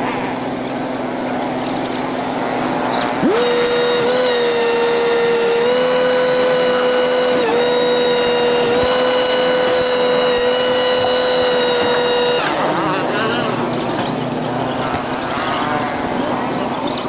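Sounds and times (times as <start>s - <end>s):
power tool motor whining: 0.0s - 17.0s.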